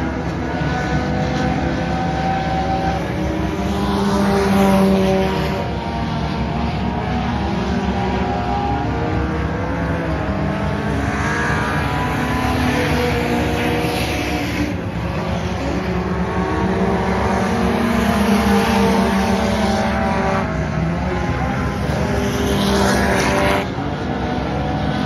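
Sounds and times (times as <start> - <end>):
race car engines: 0.0 - 25.0.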